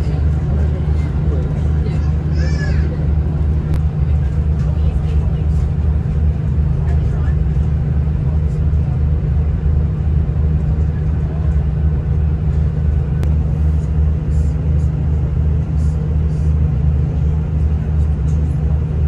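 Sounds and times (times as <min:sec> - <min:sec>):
train engine hum from inside: 0:00.0 - 0:19.0.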